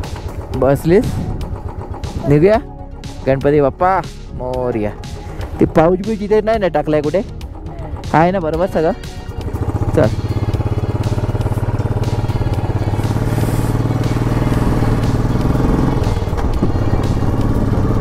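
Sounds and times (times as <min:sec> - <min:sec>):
motorcycle engine riding off: 0:00.0 - 0:03.9, 0:04.5 - 0:18.0.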